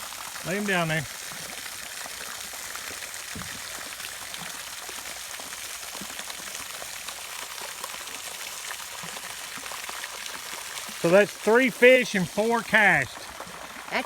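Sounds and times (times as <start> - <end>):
steady water noise: 0.0 - 14.0.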